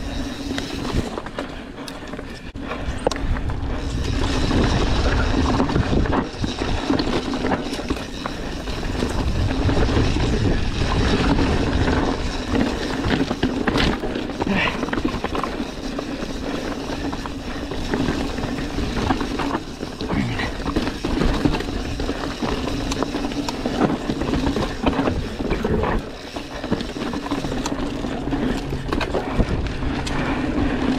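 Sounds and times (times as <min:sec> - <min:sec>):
bike rattling over rocks: 0:00.0 - 0:30.9
tyres rolling over stones: 0:00.0 - 0:30.9.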